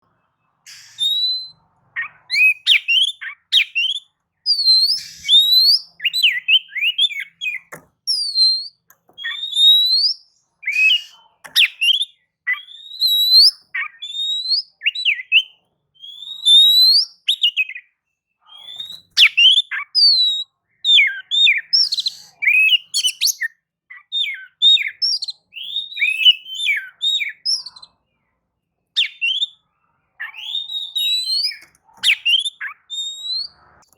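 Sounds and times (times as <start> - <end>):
bird singing whistled phrases: 0.7 - 28.0, 29.0 - 29.6, 30.2 - 33.9.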